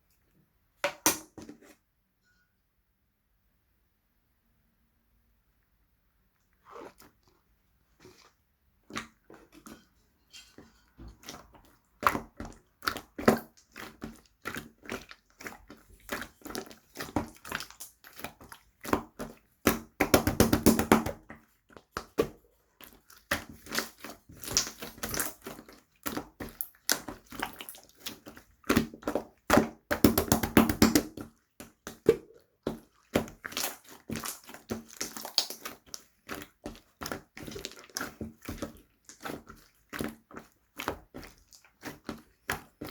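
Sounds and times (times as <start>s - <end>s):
slime squelching by hand: 6.4s - 42.9s.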